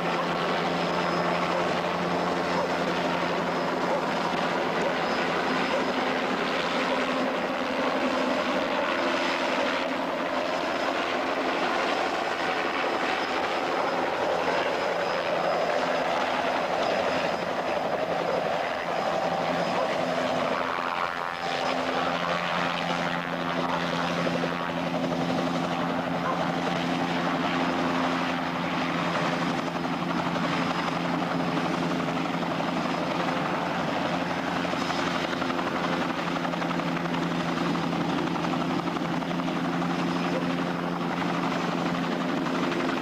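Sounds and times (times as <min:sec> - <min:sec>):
helicopter engine whine: 0:00.0 - 0:43.0
helicopter rotor and engine: 0:00.0 - 0:43.0.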